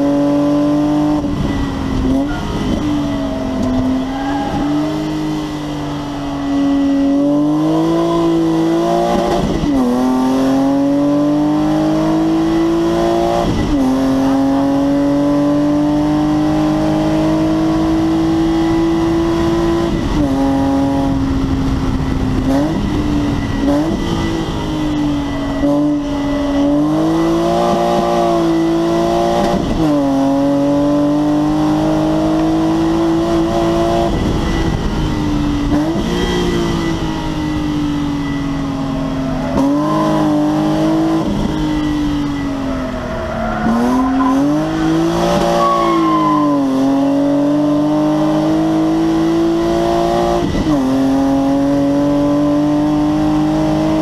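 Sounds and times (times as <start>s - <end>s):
car engine revving under load: 0.0s - 54.0s.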